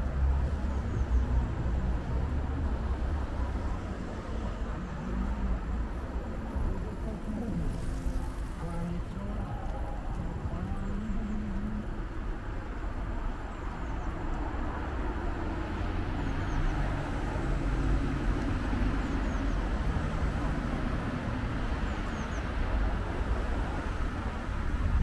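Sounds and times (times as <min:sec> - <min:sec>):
cars passing: 0:00.0 - 0:25.0.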